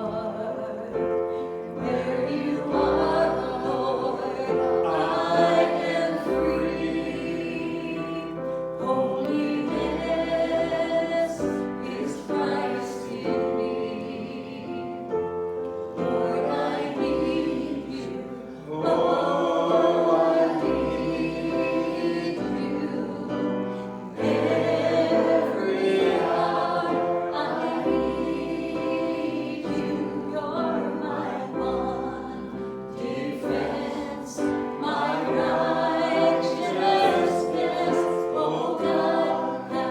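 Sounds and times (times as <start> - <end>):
congregation singing a hymn: 0.0 - 39.9
piano chords: 0.0 - 39.9.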